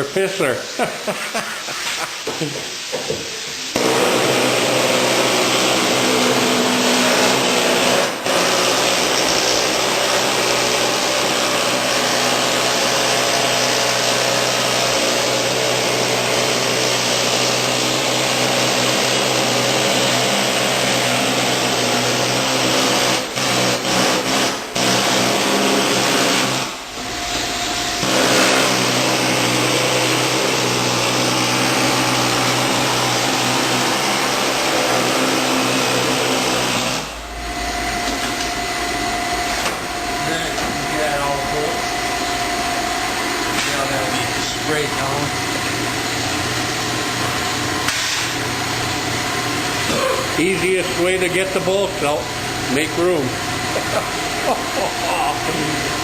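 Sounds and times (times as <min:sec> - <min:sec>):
power tool whining: 0:03.8 - 0:56.0.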